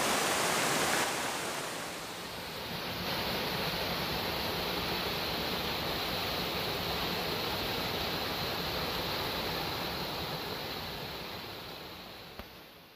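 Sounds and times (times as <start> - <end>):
rush of falling water: 0.0 - 10.6.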